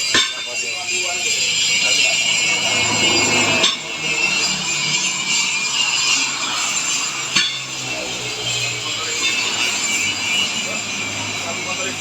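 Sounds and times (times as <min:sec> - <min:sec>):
metal scraping: 0:00.0 - 0:12.0.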